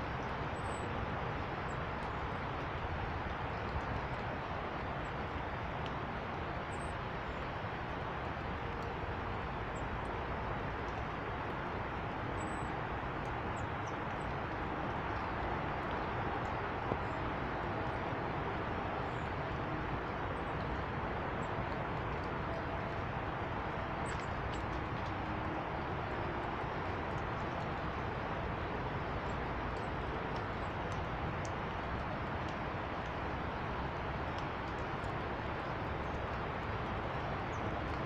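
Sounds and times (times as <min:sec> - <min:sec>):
outdoor background roar: 0:00.0 - 0:38.0.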